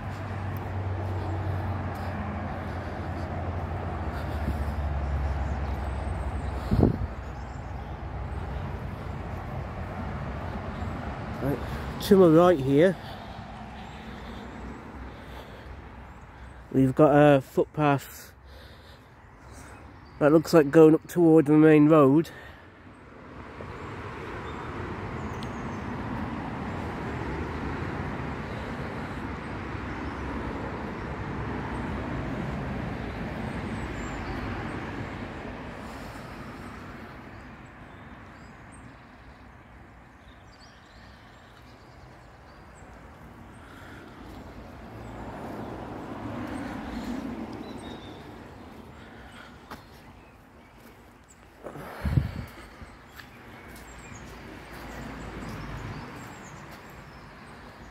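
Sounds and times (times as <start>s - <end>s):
road traffic passing: 0.0s - 57.9s.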